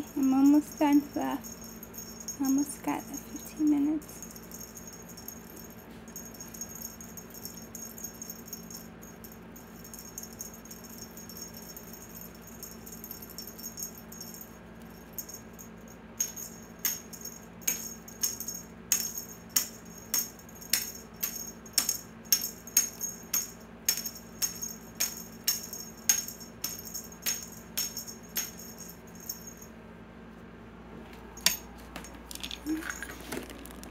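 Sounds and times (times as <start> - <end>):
small jingle bells jingling: 0.0 - 29.8, 31.2 - 33.9.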